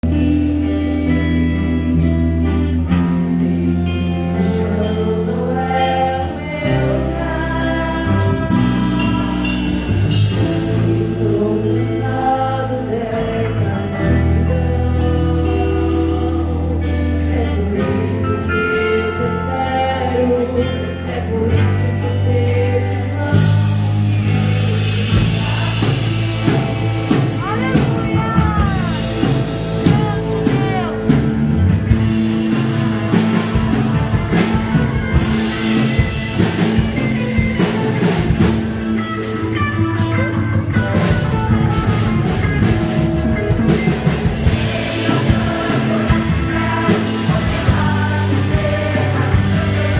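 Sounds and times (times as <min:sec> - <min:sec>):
drum kit beat: 0:00.0 - 0:13.4, 0:23.0 - 0:49.9
worship band singing: 0:00.0 - 0:49.9.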